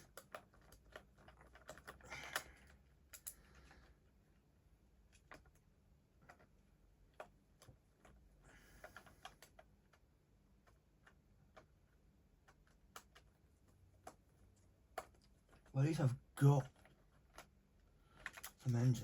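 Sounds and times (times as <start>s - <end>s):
plastic toys clicking: 0.0s - 4.0s, 6.3s - 19.0s.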